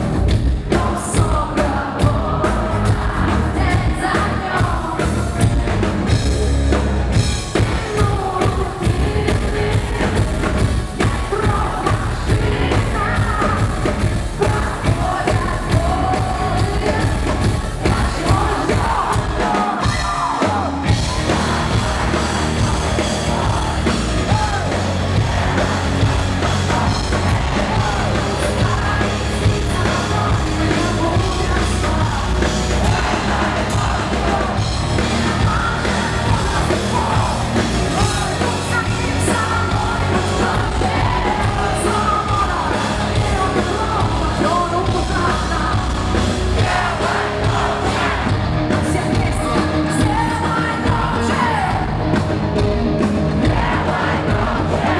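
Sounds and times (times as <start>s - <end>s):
bass guitar: 0.0s - 54.9s
drums: 0.0s - 54.9s
electric guitars: 0.0s - 54.9s.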